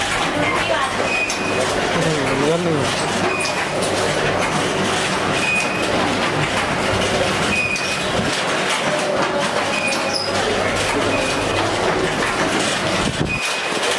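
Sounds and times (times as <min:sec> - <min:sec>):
machine mechanical clatter: 0:00.0 - 0:13.9.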